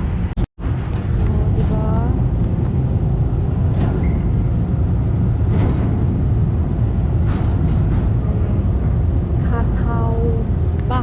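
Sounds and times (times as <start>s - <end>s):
engine rumbling: 0.0s - 11.0s
road or water noise: 0.0s - 11.0s.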